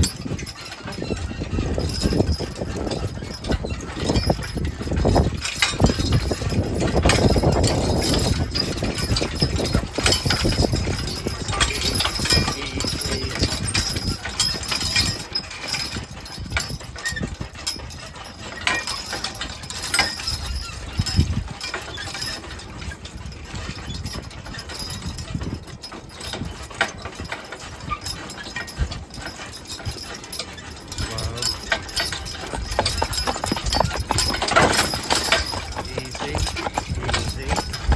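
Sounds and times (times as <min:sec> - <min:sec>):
horse hooves clip-clopping: 0:00.0 - 0:37.9.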